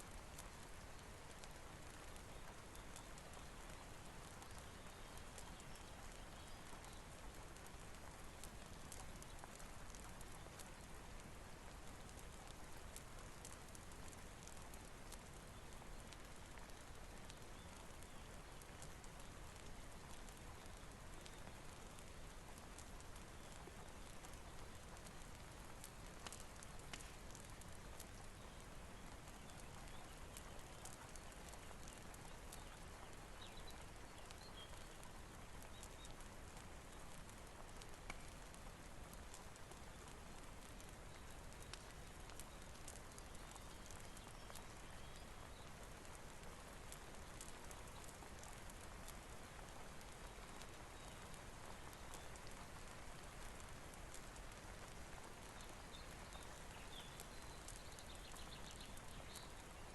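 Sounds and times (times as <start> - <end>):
faint steady rain: 0.0 - 59.9
sharp crackles: 0.0 - 59.9.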